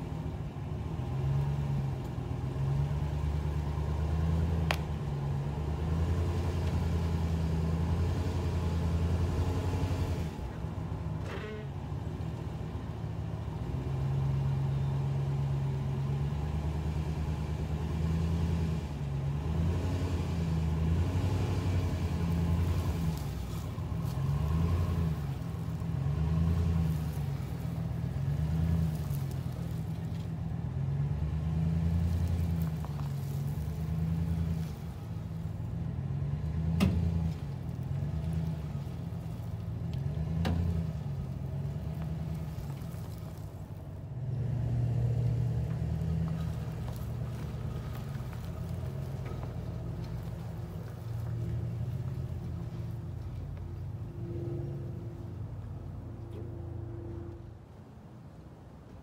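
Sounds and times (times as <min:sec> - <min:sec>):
vehicle engine at low revs: 0:00.0 - 0:59.0.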